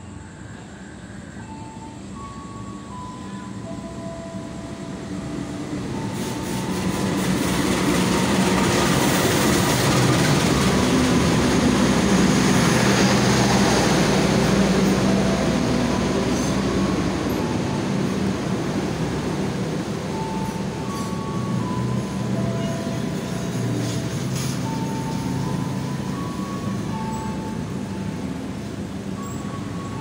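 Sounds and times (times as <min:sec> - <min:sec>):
diesel locomotive engine drone: 0:00.0 - 0:30.0
train wheels rumbling on rails: 0:01.0 - 0:30.0.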